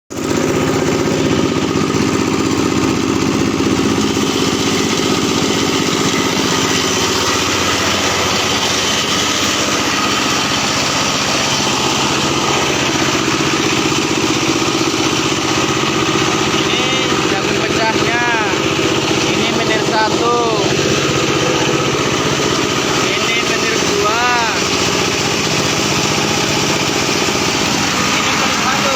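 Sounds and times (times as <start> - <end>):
corn-cracking machine engine drone: 0.1 - 28.9.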